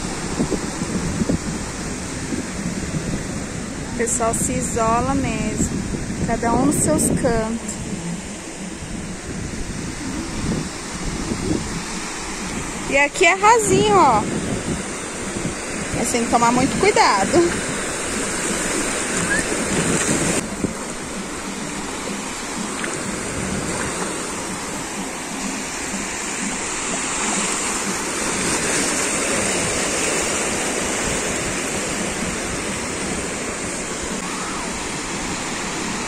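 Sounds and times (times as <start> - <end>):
small waves breaking on sand: 0.0 - 36.0.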